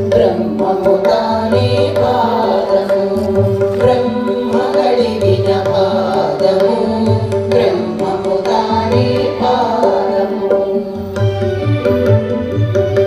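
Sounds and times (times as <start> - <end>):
hand drums playing: 0.0 - 13.0.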